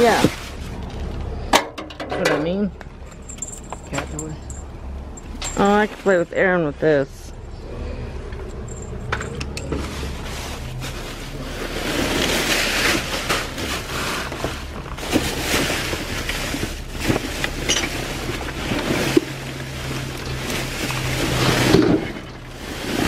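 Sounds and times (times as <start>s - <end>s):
items rustling and clattering: 0.0s - 6.7s, 8.3s - 23.0s.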